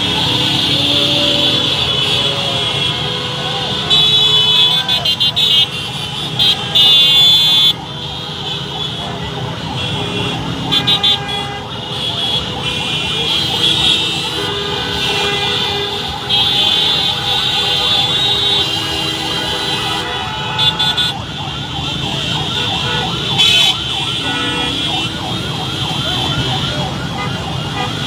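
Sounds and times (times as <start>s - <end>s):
vehicle horns honking: 0.0s - 9.0s, 9.7s - 21.2s, 22.6s - 25.3s
street traffic and engines: 0.0s - 28.0s.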